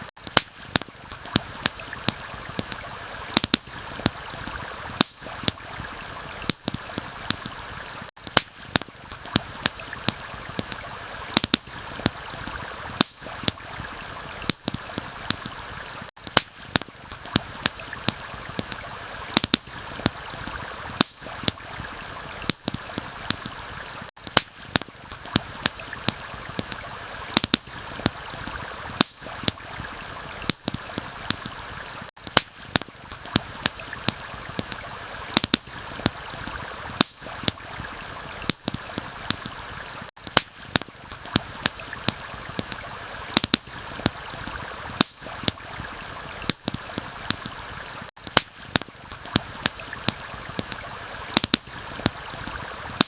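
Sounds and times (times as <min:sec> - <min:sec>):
campfire crackling and popping: 0:00.0 - 0:53.0
stream flowing: 0:00.0 - 0:53.0.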